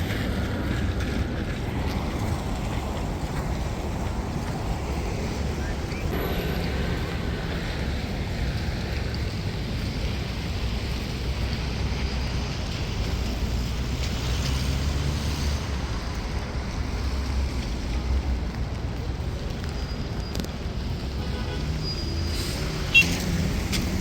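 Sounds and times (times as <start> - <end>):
outdoor street noise: 0.0 - 24.0.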